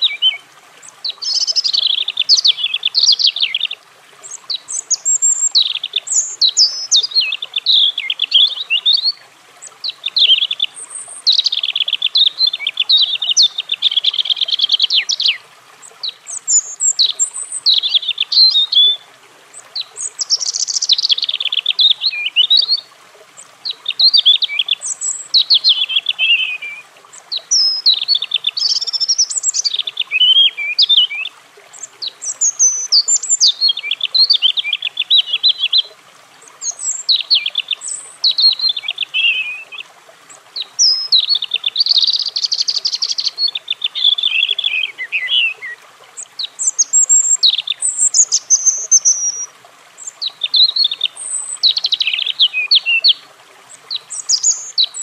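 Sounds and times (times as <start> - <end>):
robin singing: 0.0 - 55.0.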